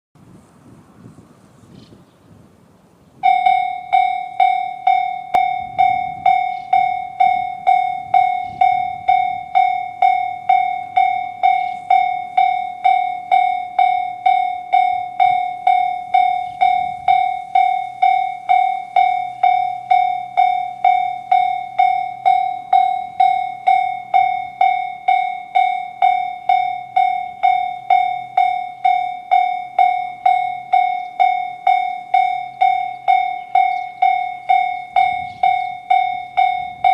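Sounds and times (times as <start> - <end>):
level crossing warning bell: 3.2 - 36.9.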